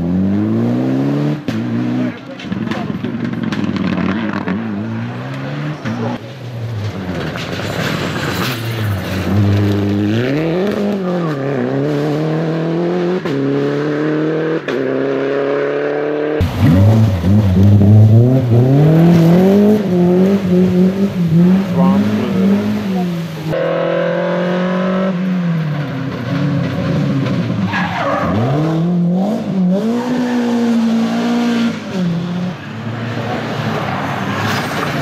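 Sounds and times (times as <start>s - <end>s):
car accelerating: 0.0s - 35.0s
rally car engines revving: 0.0s - 35.0s.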